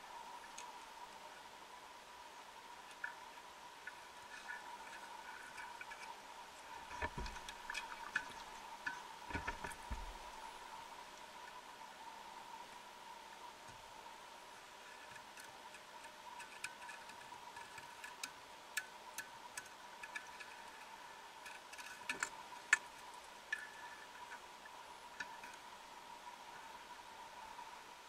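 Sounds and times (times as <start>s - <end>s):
faint underwater hum: 0.0s - 28.0s.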